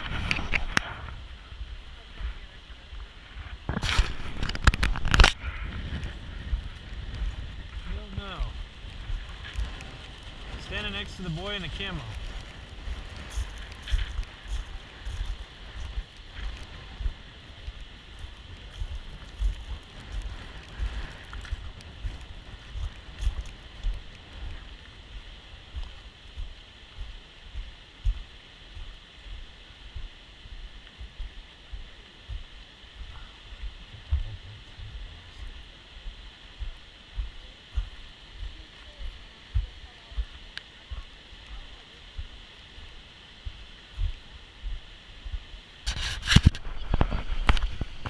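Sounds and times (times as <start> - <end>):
wind buffeting microphone: 0.0 - 40.3, 40.9 - 48.0
low outdoor rumble: 0.0 - 45.9.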